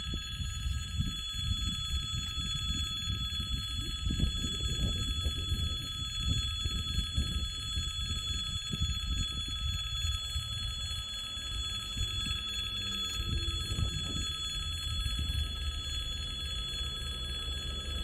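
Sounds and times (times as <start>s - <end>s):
level-crossing warning bell: 0.0s - 18.0s.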